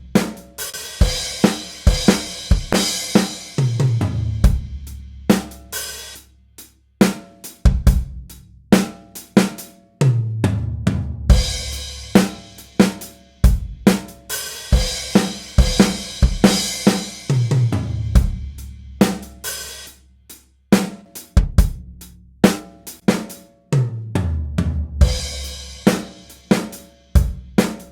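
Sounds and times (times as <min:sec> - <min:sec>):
acoustic drum kit beat: 0:00.0 - 0:27.9.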